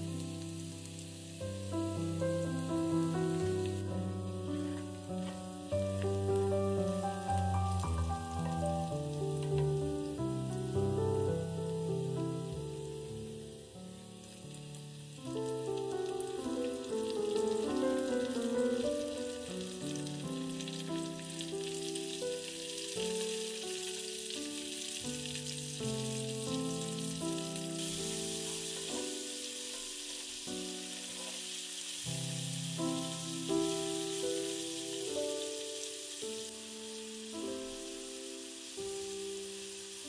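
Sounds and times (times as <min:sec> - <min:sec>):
food sizzling in frying pan: 0:00.0 - 0:40.0
soft background music: 0:00.0 - 0:40.0.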